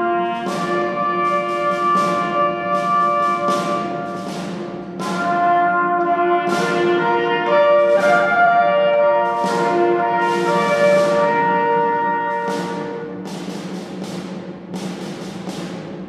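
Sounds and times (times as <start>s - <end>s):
orchestral brass chords: 0.0s - 16.0s.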